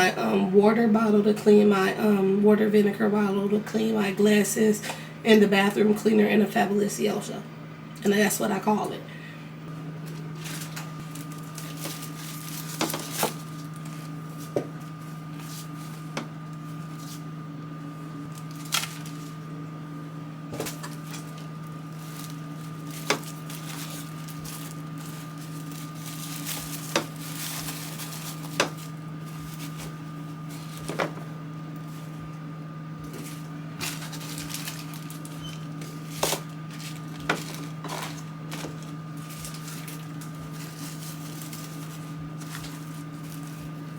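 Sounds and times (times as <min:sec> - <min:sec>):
steady electrical hum: 0:00.0 - 0:43.9.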